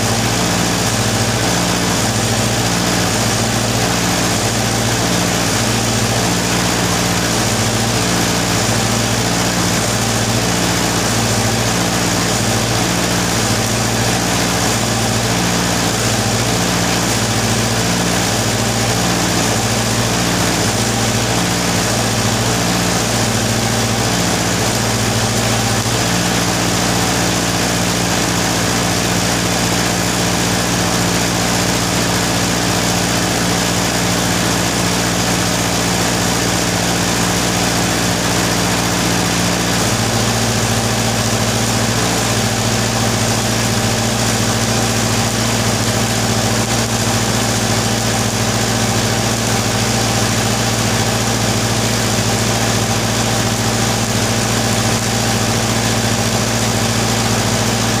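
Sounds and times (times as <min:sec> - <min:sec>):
welding hiss: 0:00.0 - 0:58.0
welding machine hum: 0:00.0 - 0:58.0.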